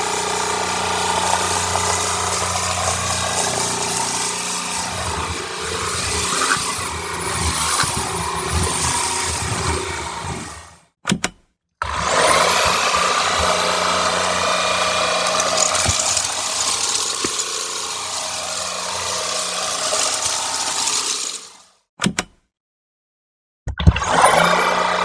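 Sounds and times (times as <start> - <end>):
vacuum cleaner motor whining: 0.0 - 10.8, 11.8 - 21.7, 24.0 - 25.0.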